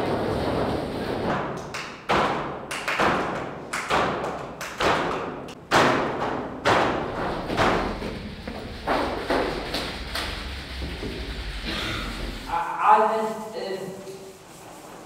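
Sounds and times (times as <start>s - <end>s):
echoing thumps and knocks: 0.0s - 12.5s.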